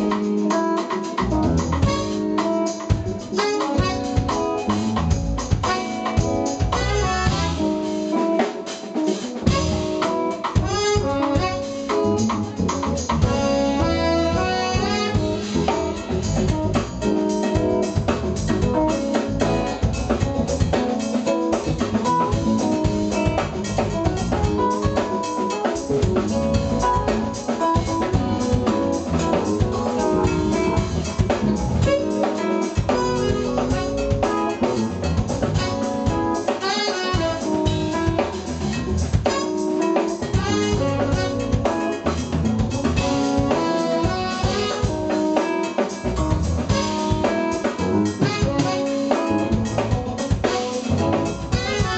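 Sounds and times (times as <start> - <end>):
saxophone and trumpet: 0.0 - 8.4, 9.3 - 18.0, 18.6 - 51.9
drum kit: 0.0 - 51.9
electric guitars: 0.0 - 51.9
electric keyboards: 0.0 - 51.9.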